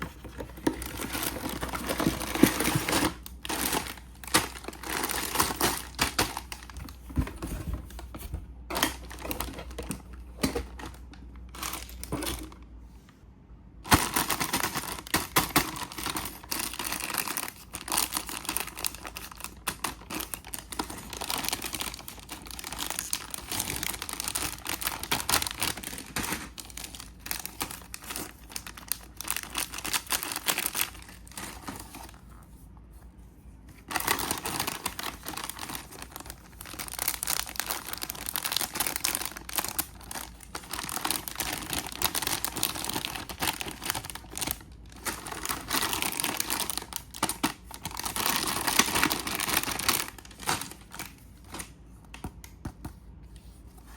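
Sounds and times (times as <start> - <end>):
packaging crinkling and tearing: 0.0 - 12.6, 13.8 - 32.4, 33.8 - 51.8.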